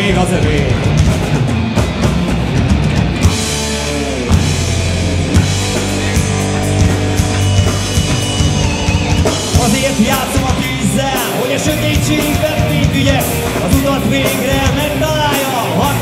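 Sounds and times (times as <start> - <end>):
live rock band playing: 0.0 - 16.0
sustained bass notes: 0.0 - 16.0
drum hits: 0.3 - 16.0.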